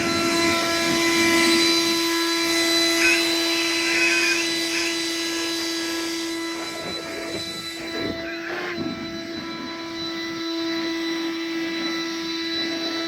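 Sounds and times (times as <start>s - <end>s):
leaf blower running: 0.0s - 13.0s.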